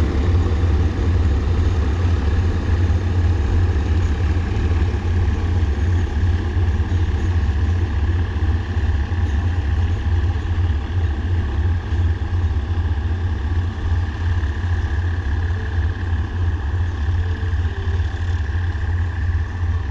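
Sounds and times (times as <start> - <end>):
faint higher hum: 0.0 - 19.9
locomotive engines idling: 0.0 - 19.9.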